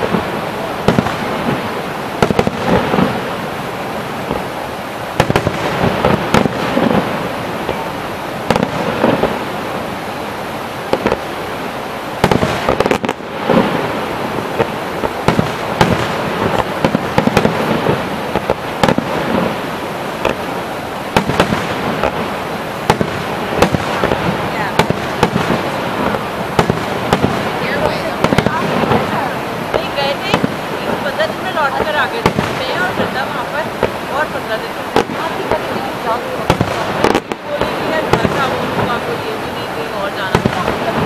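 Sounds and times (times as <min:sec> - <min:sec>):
firework shells bursting: 0:00.0 - 0:09.8, 0:12.2 - 0:39.4.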